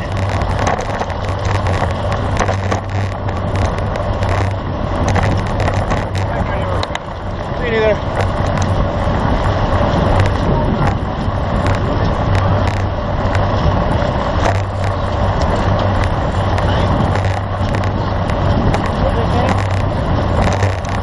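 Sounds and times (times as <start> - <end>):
bicycle road noise: 0.0 - 21.0
wind hitting microphone: 0.0 - 21.0.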